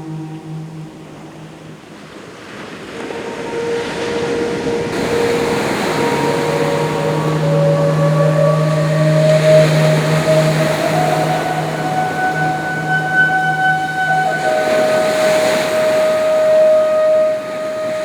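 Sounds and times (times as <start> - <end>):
flute holding notes: 0.0 - 18.0
low chanted om: 0.0 - 18.0
ocean surf: 0.0 - 18.0.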